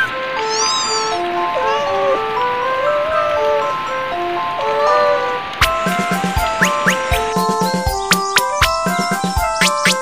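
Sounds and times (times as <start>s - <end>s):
simple melody of held notes: 0.0s - 10.0s.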